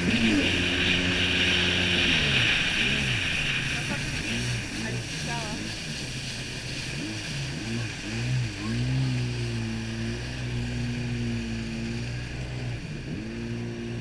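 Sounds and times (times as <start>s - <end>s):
jet ski engine running: 0.0s - 14.0s
water rushing: 0.0s - 14.0s.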